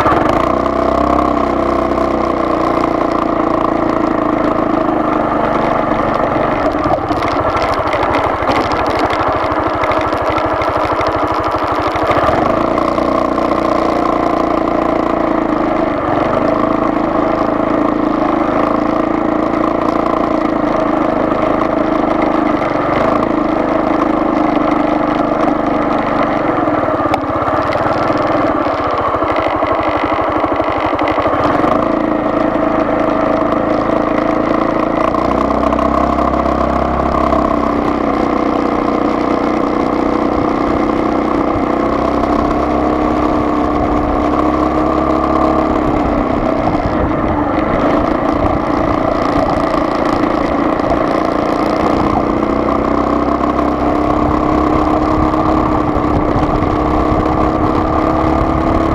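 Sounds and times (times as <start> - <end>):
car engine droning: 0.0 - 58.9
road noise: 0.0 - 58.9.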